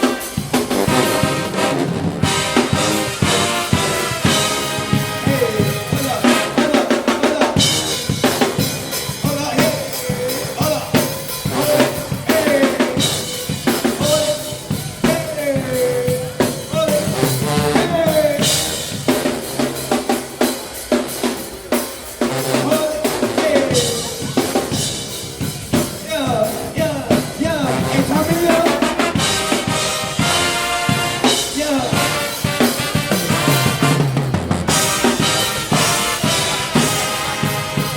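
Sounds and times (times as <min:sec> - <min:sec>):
drum set played fast: 0:00.0 - 0:37.9.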